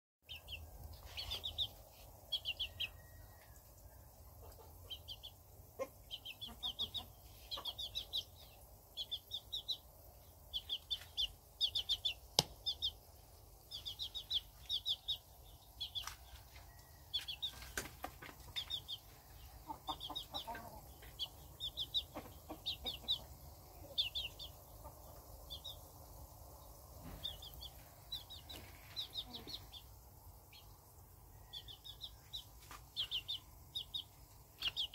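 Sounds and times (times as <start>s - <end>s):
small bird chirping: 0.2s - 34.9s
low steady background hum: 0.3s - 34.9s.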